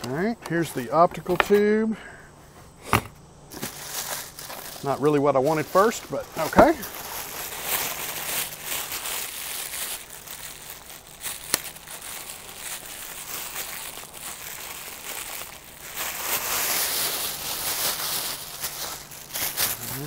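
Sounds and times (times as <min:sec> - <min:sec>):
plastic wrapping crinkling: 0:03.5 - 0:20.0.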